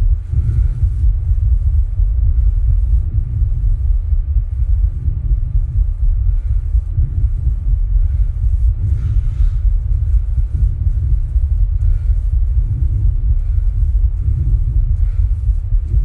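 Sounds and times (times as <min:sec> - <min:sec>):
heartbeats: 0:00.0 - 0:16.0
steady deep rumble: 0:00.0 - 0:16.0.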